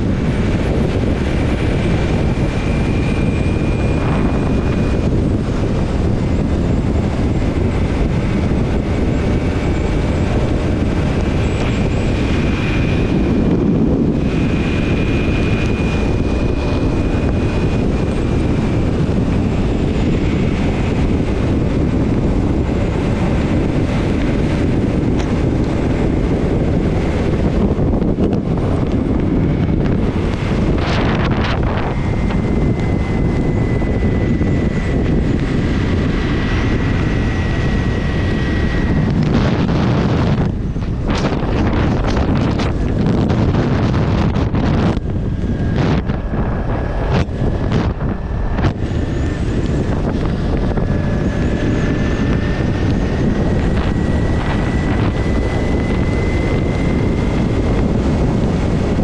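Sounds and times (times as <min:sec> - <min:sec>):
faint high whine: 0:00.0 - 0:59.0
motorcycle engine drone: 0:00.0 - 0:59.0
wind rush: 0:00.0 - 0:59.0.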